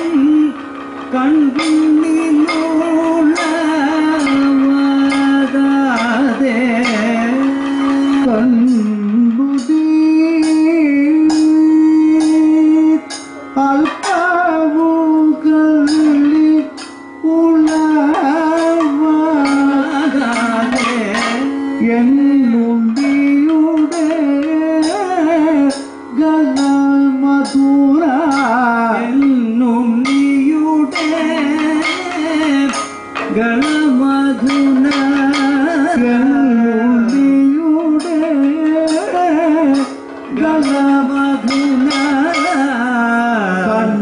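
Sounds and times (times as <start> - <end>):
person singing ornamented vocal line: 0.0 - 44.0.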